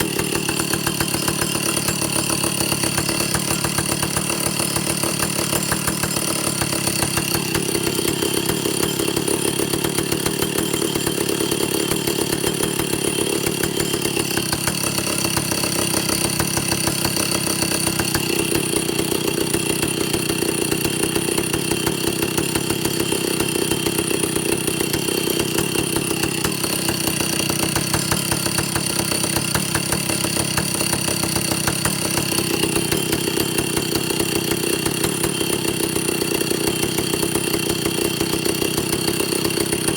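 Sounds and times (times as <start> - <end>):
chainsaw engine idling: 0.0 - 39.9.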